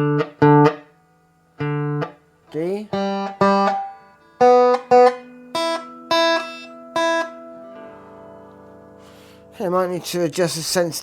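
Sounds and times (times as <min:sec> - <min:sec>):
guitar strings plucked: 0:00.0 - 0:10.2.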